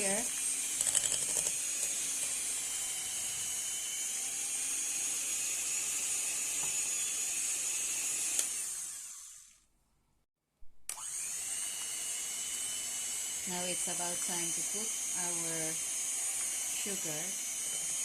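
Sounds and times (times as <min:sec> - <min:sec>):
electric mixer whirring: 0:00.0 - 0:09.6, 0:10.9 - 0:18.0.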